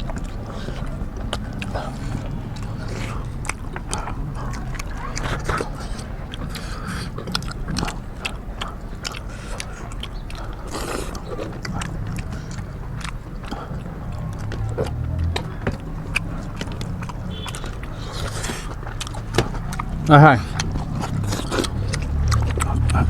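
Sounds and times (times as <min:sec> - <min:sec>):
chewing and lip-smacking: 0:00.0 - 0:23.0.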